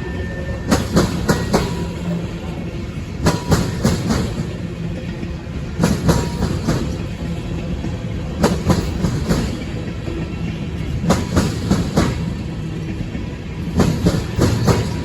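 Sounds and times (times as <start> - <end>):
railcars rumbling: 0.0 - 15.0
train wheels clicking over rail joints: 0.6 - 15.0.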